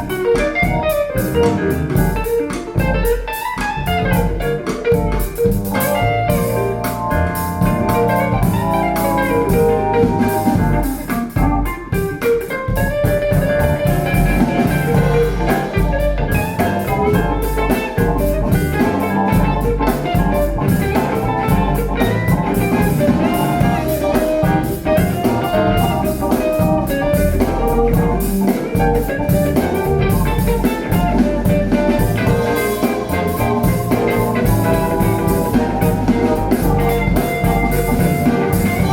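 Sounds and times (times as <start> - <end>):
blues song over loudspeakers: 0.0 - 38.9.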